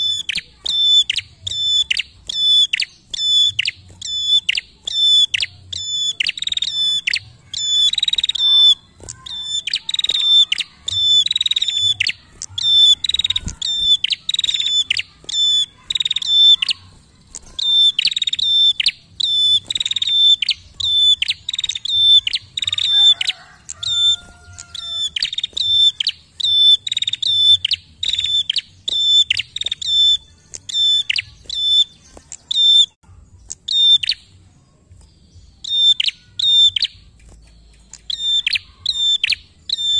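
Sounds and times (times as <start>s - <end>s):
bird calling sharp high notes: 0.0s - 34.4s, 35.6s - 39.9s
scratchy bird chatter: 0.0s - 39.9s.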